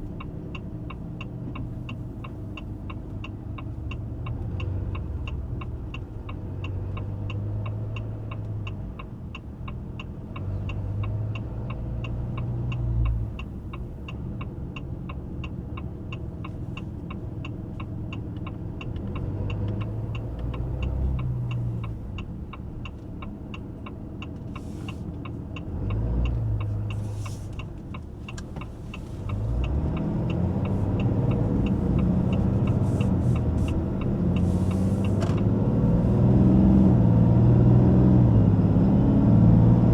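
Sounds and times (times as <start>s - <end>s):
diesel truck engine running: 0.0s - 39.9s
turn signal ticking: 0.0s - 39.9s.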